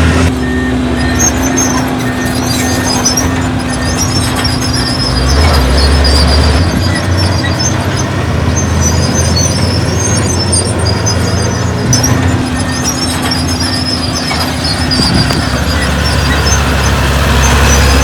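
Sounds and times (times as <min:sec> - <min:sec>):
bulldozer diesel engine rumble: 0:00.0 - 0:18.0
steel tracks squealing: 0:00.0 - 0:18.0.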